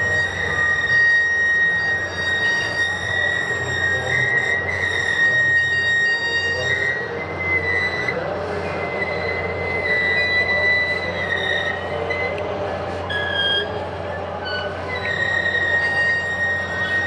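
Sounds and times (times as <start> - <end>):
freight train rumble: 0.0 - 17.0
train wheels squealing on rails: 0.0 - 17.0.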